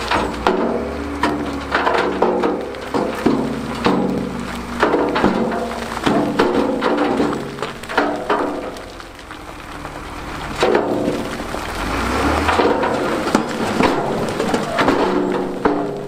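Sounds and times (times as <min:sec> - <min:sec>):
stones clattering and rumbling: 0:00.0 - 0:16.0.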